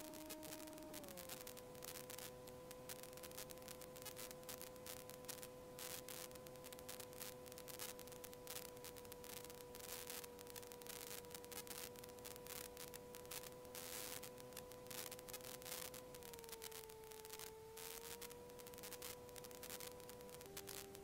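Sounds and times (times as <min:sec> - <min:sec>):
static crackle: 0:00.0 - 0:21.0.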